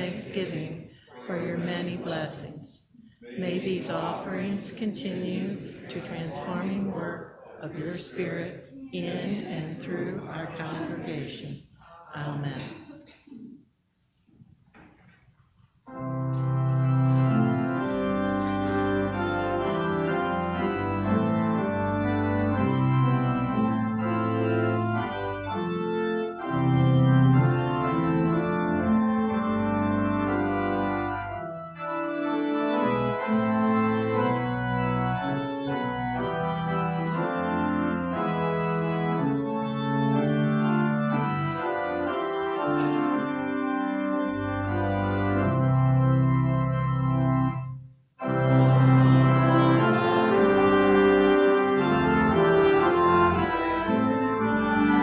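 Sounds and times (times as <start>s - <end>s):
church organ playing chords: 0.0s - 11.6s, 15.9s - 55.0s.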